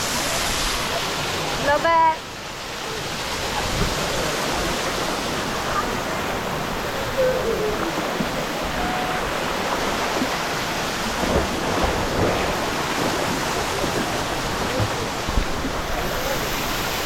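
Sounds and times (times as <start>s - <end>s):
waterfall pouring into a pool: 0.0s - 6.2s, 8.8s - 17.0s.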